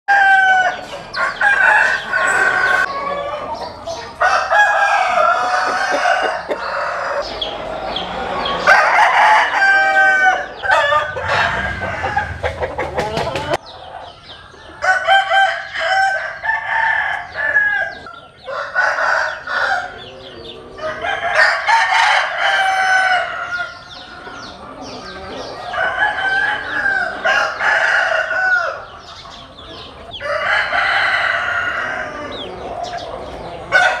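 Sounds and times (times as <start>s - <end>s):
chickens clucking: 0.1s - 34.0s
roosters crowing: 0.1s - 34.0s.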